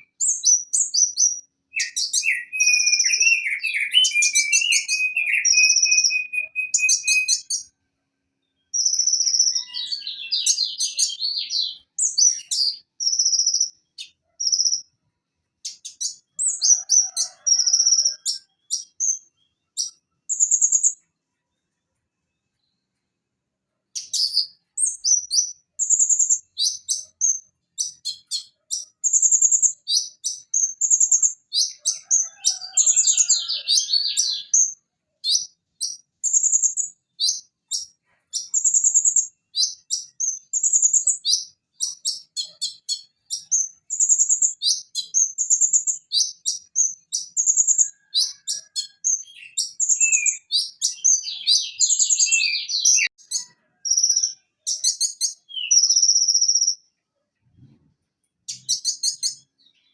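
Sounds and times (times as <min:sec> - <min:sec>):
bird chirping and trilling: 0:00.0 - 0:07.7, 0:08.4 - 0:15.0, 0:15.6 - 0:21.1, 0:24.0 - 0:56.9, 0:58.5 - 0:59.9.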